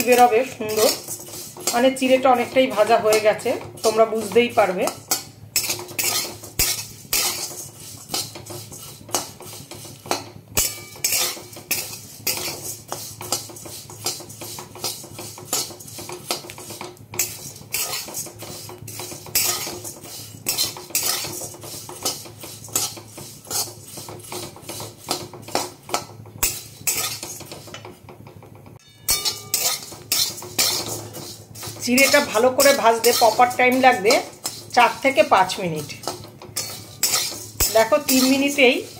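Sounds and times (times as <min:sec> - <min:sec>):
metal spatula scraping metal pan: 0:00.0 - 0:27.9, 0:28.8 - 0:38.9.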